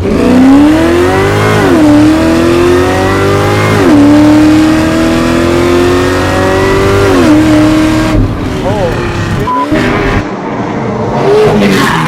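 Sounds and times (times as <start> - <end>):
car engine under hard acceleration: 0.0 - 12.0.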